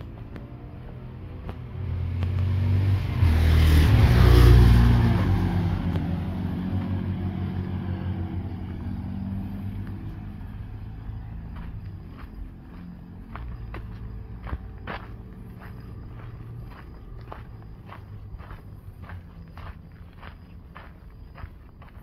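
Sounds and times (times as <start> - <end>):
car passing: 0.0 - 22.0.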